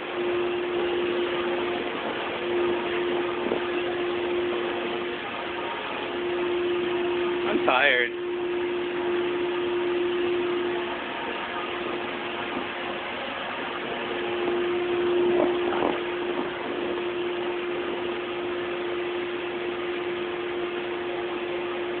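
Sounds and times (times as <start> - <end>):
electric blower humming: 0.0 - 22.0
rush of air: 0.0 - 22.0.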